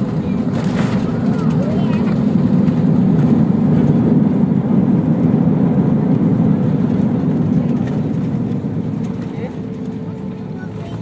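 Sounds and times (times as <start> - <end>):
airliner engines and runway rumble: 0.0 - 11.0.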